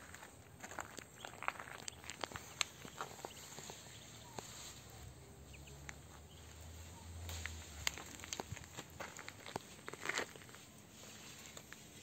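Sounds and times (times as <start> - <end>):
clicks of gravel: 0.0 - 4.9, 7.2 - 12.0.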